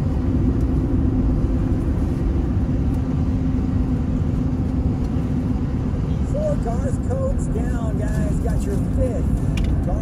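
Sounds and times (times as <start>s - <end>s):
car cabin road noise: 0.0s - 10.0s
constant low hum: 0.0s - 10.0s.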